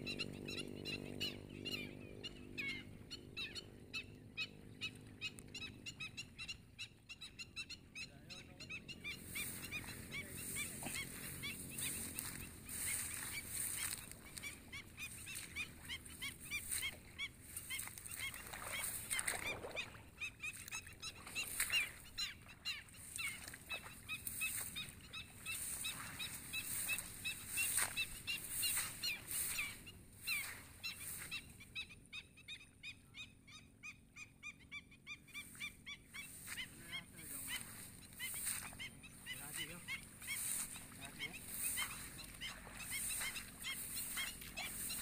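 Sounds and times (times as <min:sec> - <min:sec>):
birds yapping calls: 0:00.0 - 0:45.0.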